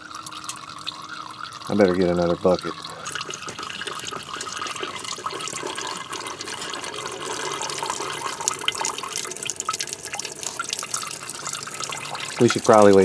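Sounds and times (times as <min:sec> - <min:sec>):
coolant splashing into a bucket: 0:00.0 - 0:13.0.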